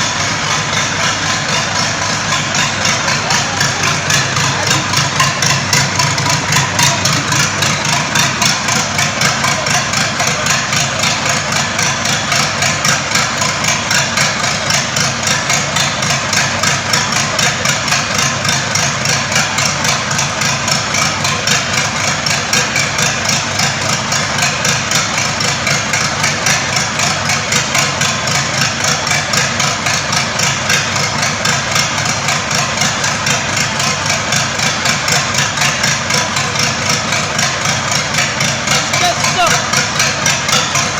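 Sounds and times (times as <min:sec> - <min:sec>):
engine idling with rapid pulsing: 0:00.0 - 0:40.9.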